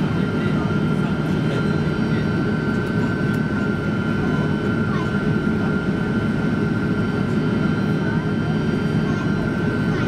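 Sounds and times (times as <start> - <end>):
jet engine and airflow rumble: 0.0 - 10.0.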